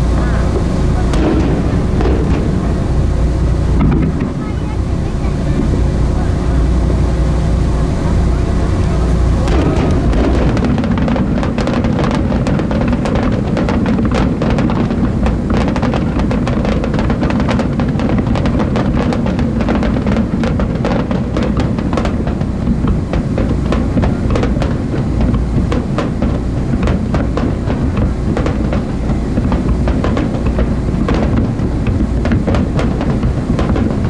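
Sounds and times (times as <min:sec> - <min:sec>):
fireworks cracking and banging: 0:00.0 - 0:34.0
low booming rumble: 0:00.0 - 0:34.0.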